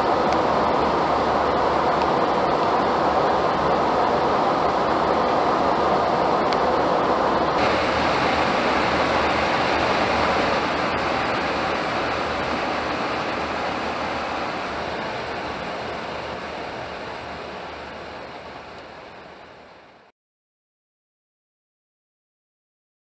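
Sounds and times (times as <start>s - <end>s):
aircraft engine and air rush: 0.0s - 20.1s.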